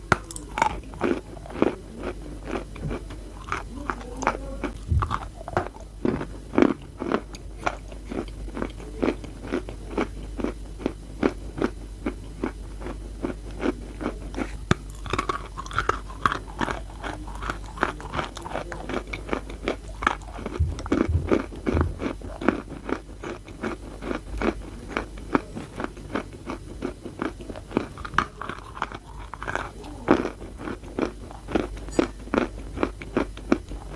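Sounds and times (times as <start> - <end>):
gritty chewing crunches: 0.0 - 33.9.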